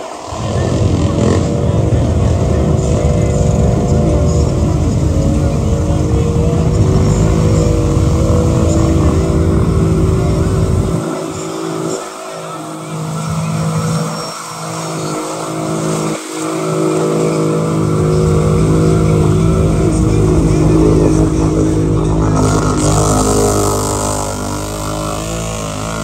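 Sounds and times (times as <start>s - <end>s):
atv engine running hard: 0.0s - 26.0s
water spray rushing: 0.0s - 26.0s.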